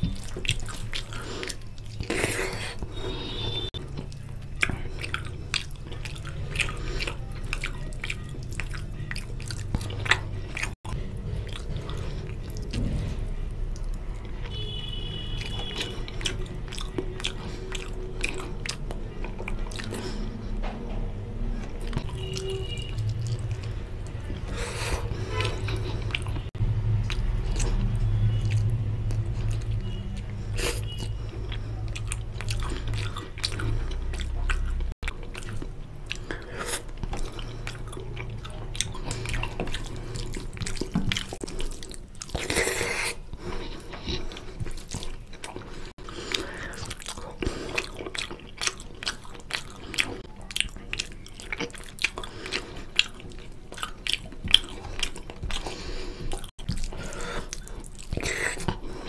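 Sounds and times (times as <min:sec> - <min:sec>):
person chewing: 0:00.0 - 0:20.7, 0:21.6 - 0:59.0.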